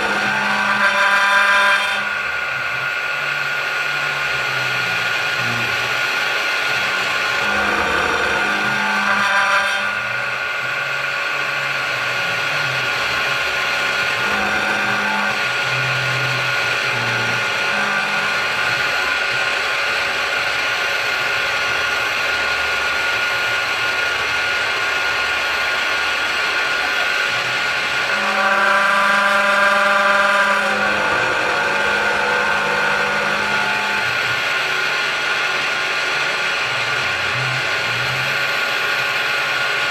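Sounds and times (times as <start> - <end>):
milling machine cutting metal: 0.0 - 39.9
stepper motors humming: 0.0 - 39.9.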